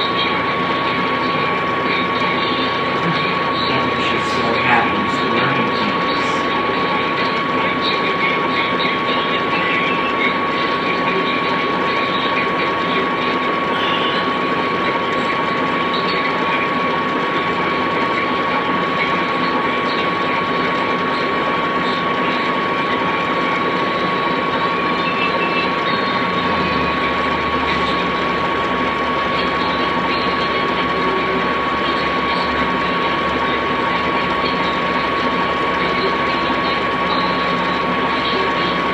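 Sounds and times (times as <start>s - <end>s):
vcr mechanism whirring: 0.0s - 38.9s.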